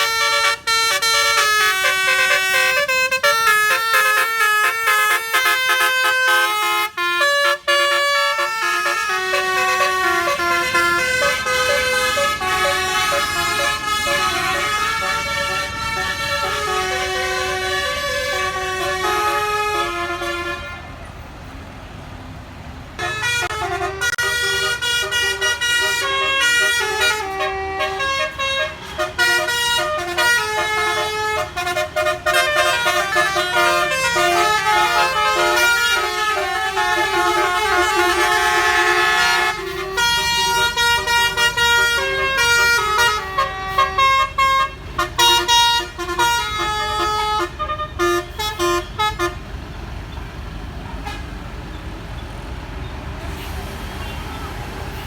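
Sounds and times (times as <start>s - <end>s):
multi-tone air horn melody: 0.0s - 21.0s, 23.0s - 49.5s.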